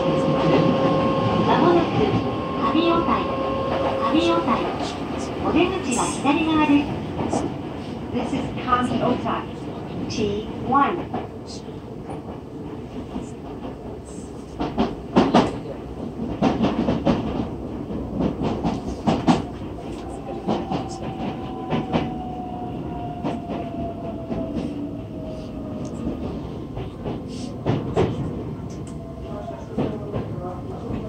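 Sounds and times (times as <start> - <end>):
train running rumble: 0.0 - 31.0.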